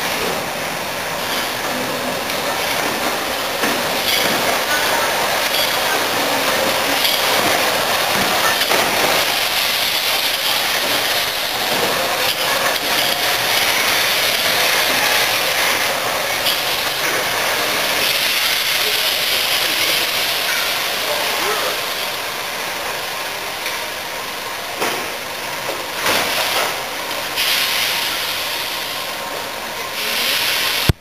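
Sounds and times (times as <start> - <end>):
hiss of escaping steam: 0.0 - 30.9
steam locomotive moving slowly: 0.0 - 31.0.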